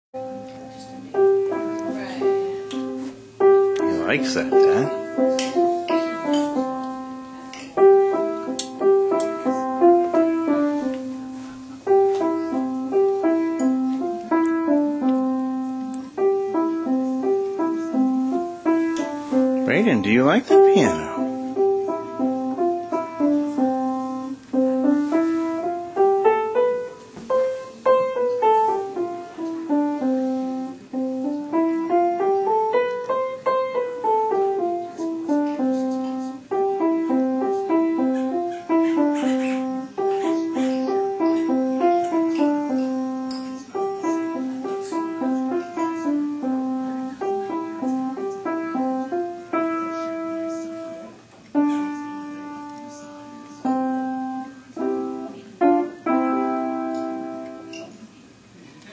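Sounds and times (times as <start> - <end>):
piano melody of single notes: 0.1 - 58.1.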